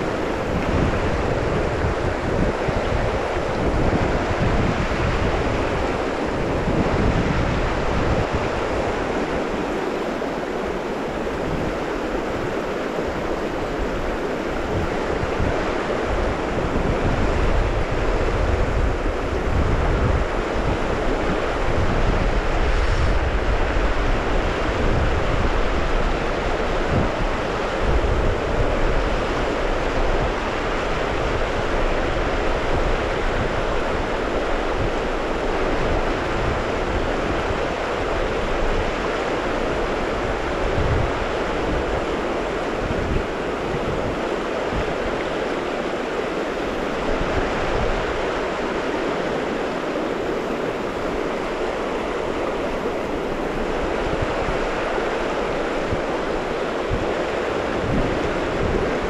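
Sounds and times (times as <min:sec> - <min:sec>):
river rapid rushing: 0:00.0 - 0:59.0
wind buffeting microphone: 0:00.0 - 0:59.0.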